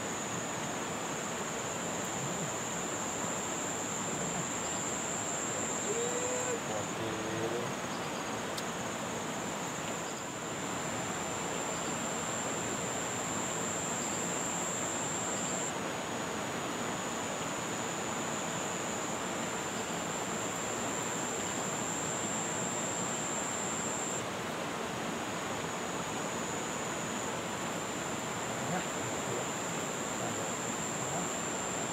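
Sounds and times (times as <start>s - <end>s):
insect buzzing: 0.0s - 15.7s, 17.1s - 24.2s, 26.4s - 31.9s.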